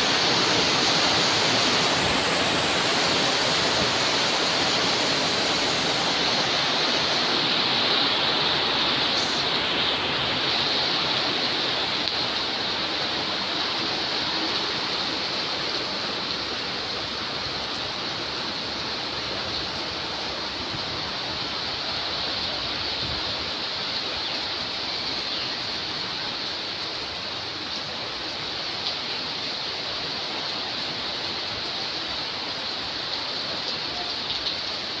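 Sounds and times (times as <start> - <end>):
heavy rain on metal roof: 0.0 - 35.0.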